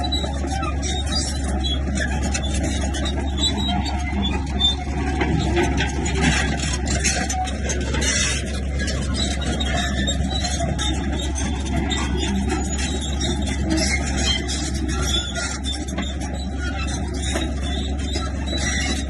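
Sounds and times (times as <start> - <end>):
bulldozer diesel engine running: 0.0 - 19.0
metallic clanks and scraping: 0.0 - 19.0.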